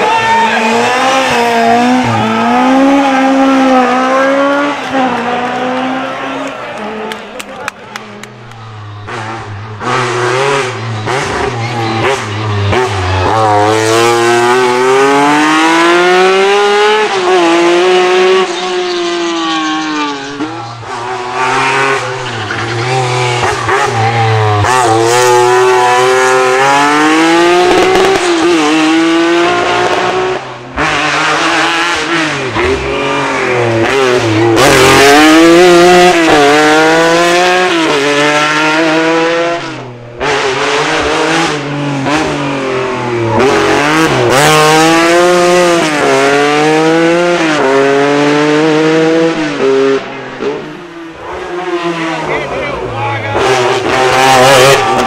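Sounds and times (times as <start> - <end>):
rally car engines revving hard: 0.0 - 55.0.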